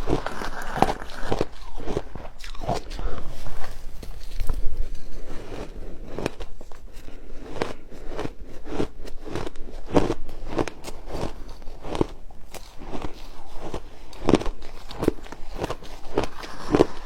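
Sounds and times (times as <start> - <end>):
ice being chewed: 0.0 - 17.0.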